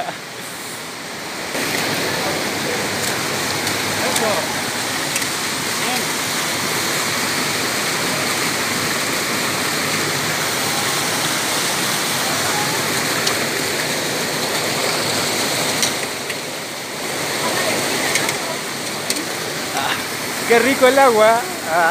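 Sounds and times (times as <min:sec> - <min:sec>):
stream rushing over boulders: 0:00.0 - 0:21.9.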